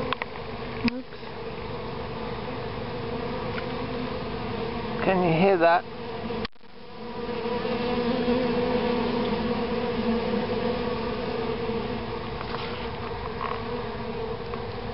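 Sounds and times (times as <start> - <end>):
honeybees buzzing: 0.0 - 14.9.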